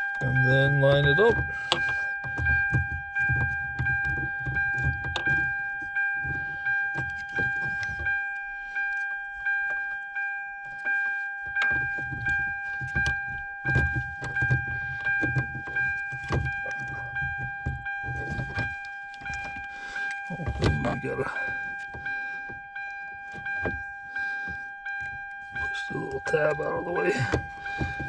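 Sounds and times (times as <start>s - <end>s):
plastic and metal parts clicking: 0.0s - 10.0s, 10.6s - 28.0s
car warning chime: 0.0s - 28.0s.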